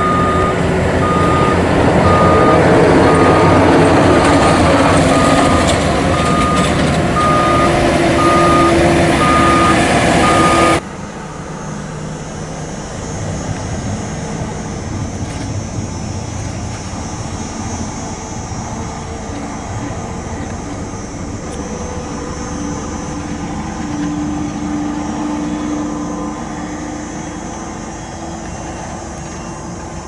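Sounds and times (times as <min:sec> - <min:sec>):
heavy truck engine: 0:00.0 - 0:30.0
reversing alarm beeping: 0:00.0 - 0:30.0.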